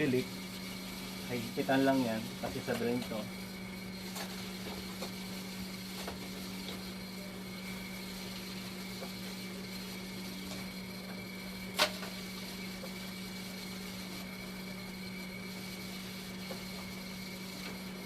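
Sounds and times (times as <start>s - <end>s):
machine humming with high whine: 0.0s - 18.0s.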